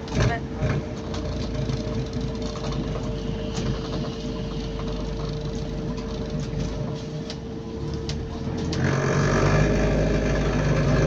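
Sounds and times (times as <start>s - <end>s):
bus engine rumble: 0.0s - 11.0s
constant whine: 0.0s - 11.0s.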